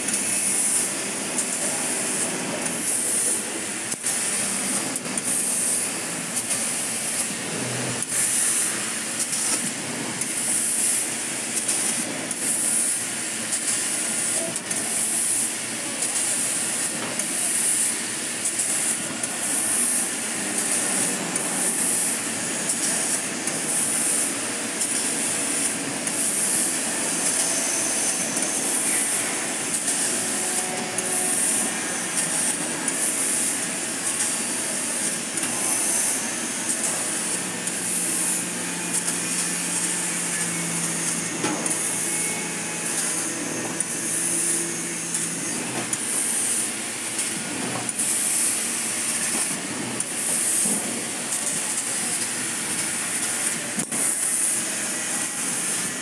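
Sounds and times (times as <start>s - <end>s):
laser cutter gas hiss: 0.0s - 56.0s
low machine noise: 0.0s - 56.0s.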